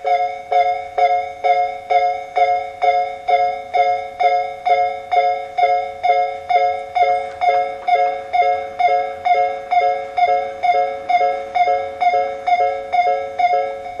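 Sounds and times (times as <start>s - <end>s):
level crossing alarm bell: 0.0s - 14.0s.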